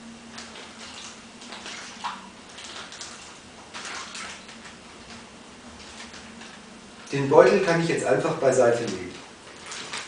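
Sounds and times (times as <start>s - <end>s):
water sloshing in plastic bag: 0.3s - 10.0s.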